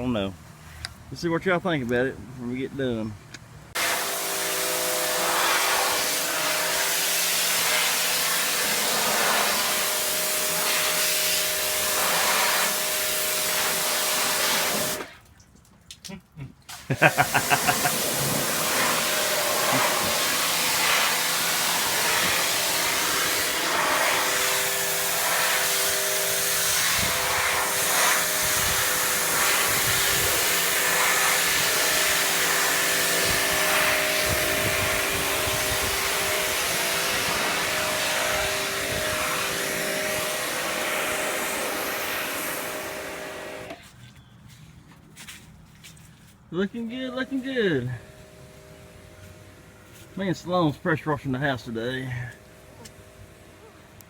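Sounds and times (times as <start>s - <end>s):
high-pressure water jet hissing: 3.8s - 15.1s, 16.7s - 43.8s, 46.8s - 54.0s
pressure washer motor whine: 3.8s - 15.1s, 16.8s - 43.8s, 46.6s - 54.0s.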